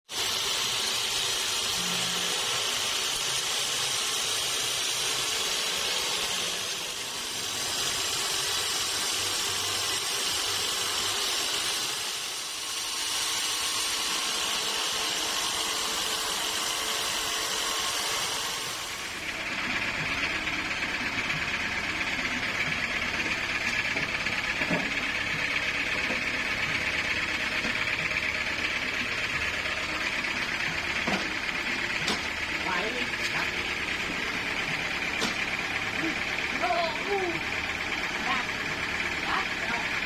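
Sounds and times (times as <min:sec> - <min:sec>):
saw cutting through log: 0:00.0 - 0:40.0.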